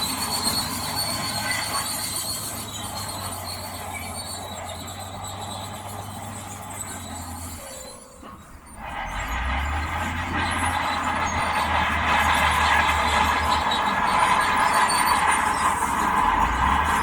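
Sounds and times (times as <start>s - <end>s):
bulldozer diesel engine running: 0.0s - 17.0s
steel tracks squealing: 0.0s - 17.0s.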